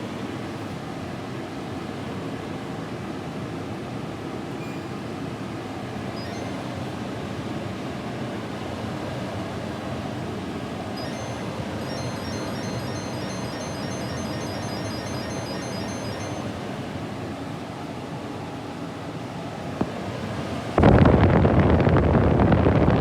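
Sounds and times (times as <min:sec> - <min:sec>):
air conditioner fan blowing: 0:00.0 - 0:23.0.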